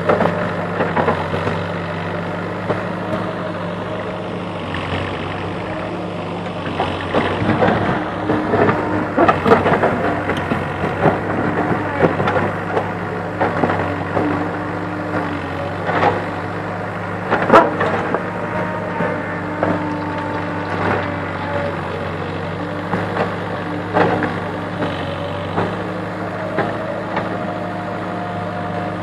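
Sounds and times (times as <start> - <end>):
diesel engine running: 0.0 - 29.0
rocks and dirt crunching: 0.0 - 29.0.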